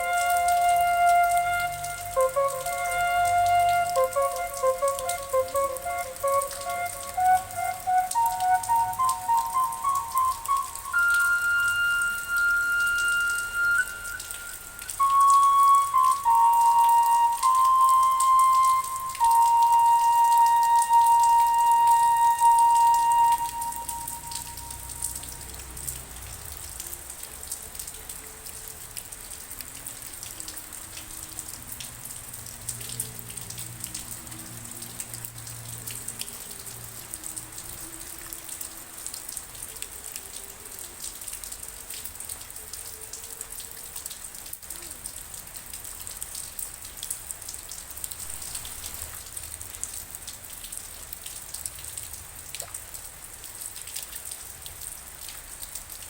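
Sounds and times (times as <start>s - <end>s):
rain drops ticking on surface: 0.0s - 56.0s.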